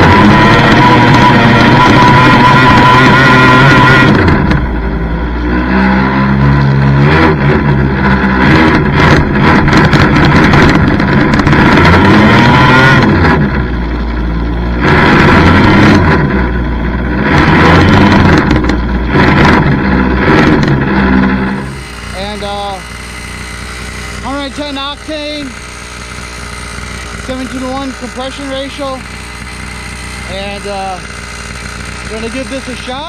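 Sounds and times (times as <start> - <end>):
small two-stroke engine revving: 0.0 - 33.0.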